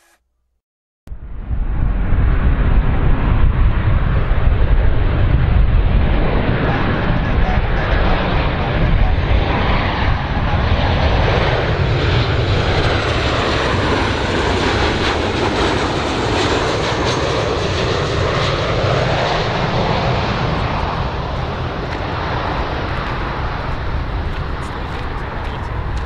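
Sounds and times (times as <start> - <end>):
jet engine rush: 1.2 - 26.0.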